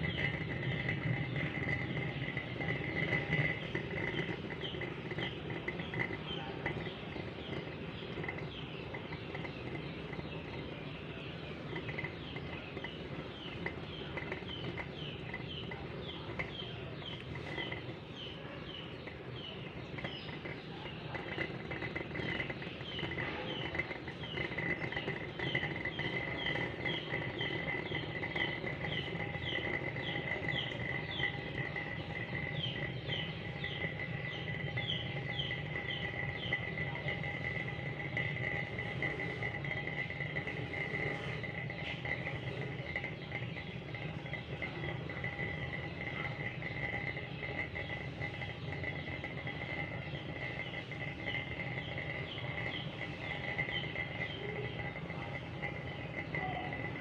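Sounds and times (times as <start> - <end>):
bird chirping: 0.0 - 57.0
low background noise: 0.0 - 57.0.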